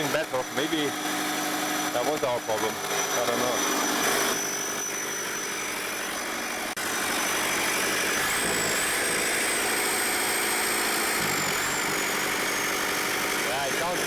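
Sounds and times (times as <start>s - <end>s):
diesel generator engine running: 0.0s - 14.0s.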